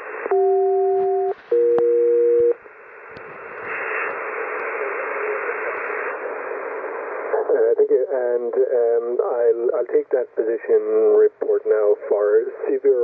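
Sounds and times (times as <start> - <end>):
paired steady radio tones: 0.0 - 13.0
radio hiss and static: 0.0 - 13.0.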